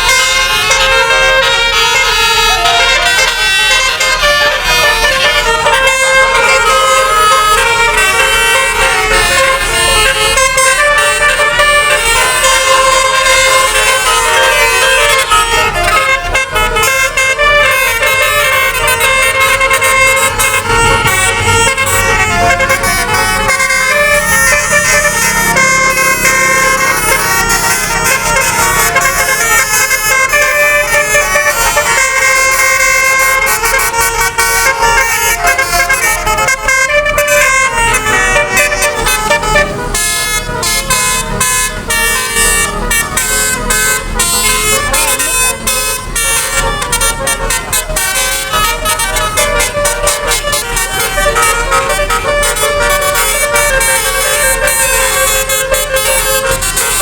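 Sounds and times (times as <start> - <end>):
multi-tone bus horn tune: 0.0 - 57.0.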